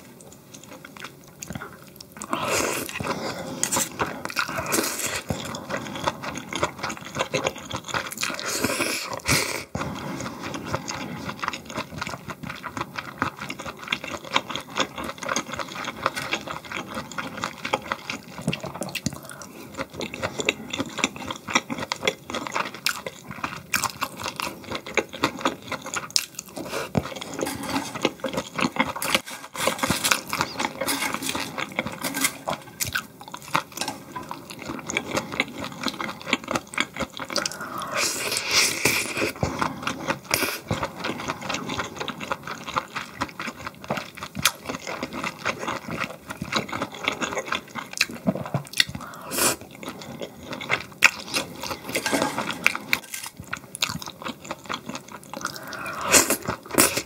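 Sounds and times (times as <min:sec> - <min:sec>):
wet chewing sounds: 0:00.2 - 0:57.0.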